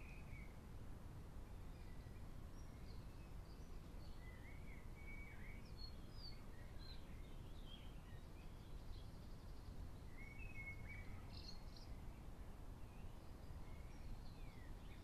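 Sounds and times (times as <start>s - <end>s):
birdsong: 0.0s - 0.6s, 1.4s - 15.0s
low background noise: 0.0s - 15.0s.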